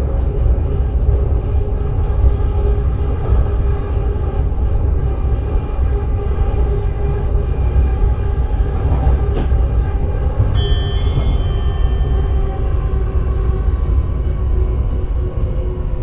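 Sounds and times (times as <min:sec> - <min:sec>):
steady hum: 0:00.0 - 0:16.0
wheels rumbling on rail: 0:00.0 - 0:16.0.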